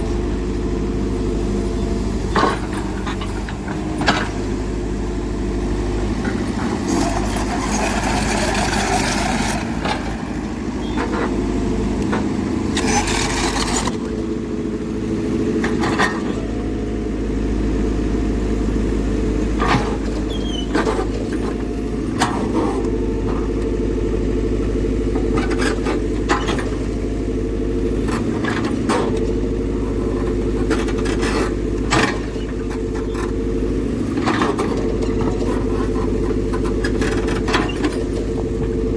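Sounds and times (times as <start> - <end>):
diesel construction machine running: 0.0 - 38.9.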